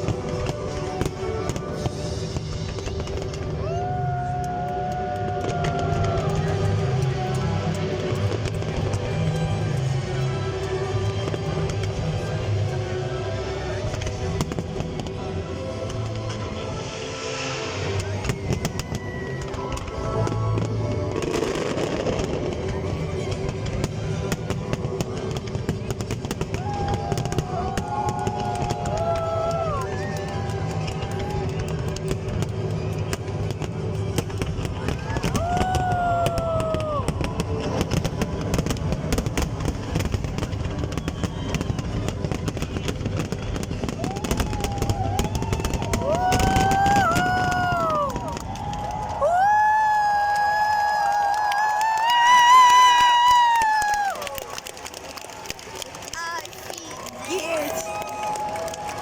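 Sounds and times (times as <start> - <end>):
music playing: 0.0 - 49.2
fireworks bangs and crackles: 0.0 - 59.0.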